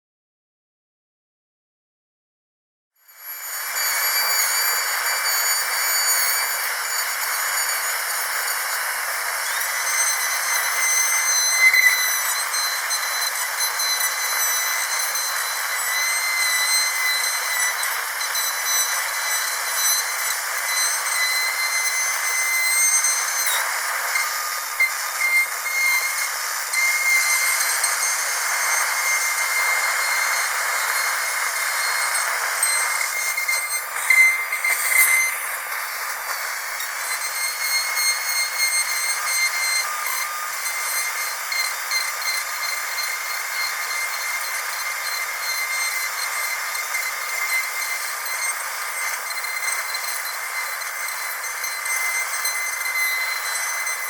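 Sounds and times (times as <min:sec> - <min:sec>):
dentist's drill whining: 0:03.0 - 0:54.0.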